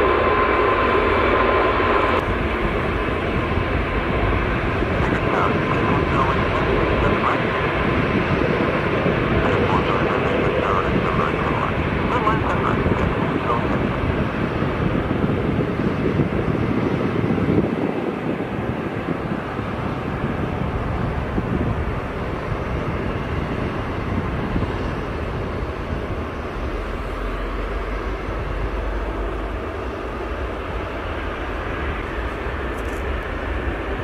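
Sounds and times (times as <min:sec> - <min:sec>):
jet engines rumbling at low power: 0:00.0 - 0:34.0.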